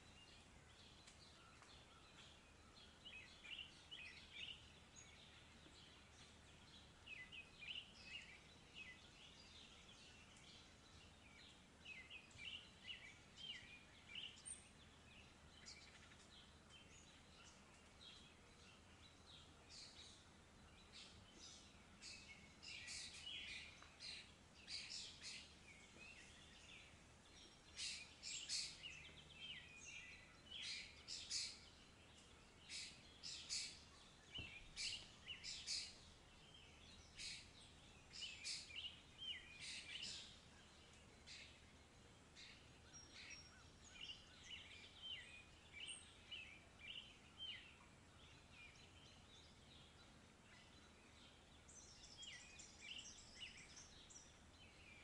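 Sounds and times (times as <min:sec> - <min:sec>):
birds chirping: 0:00.0 - 0:55.0
low steady hiss: 0:00.0 - 0:55.0.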